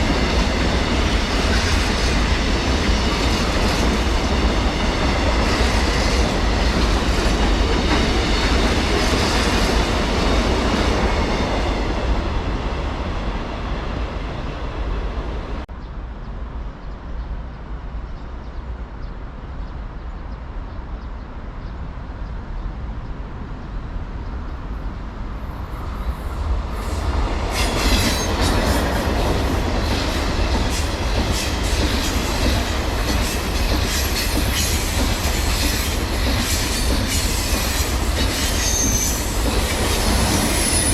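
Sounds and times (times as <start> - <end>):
train passing on rails: 0.0 - 40.9.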